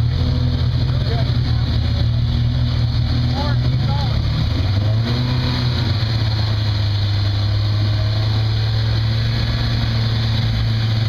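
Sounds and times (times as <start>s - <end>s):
buggy engine running at low revs: 0.0s - 11.0s.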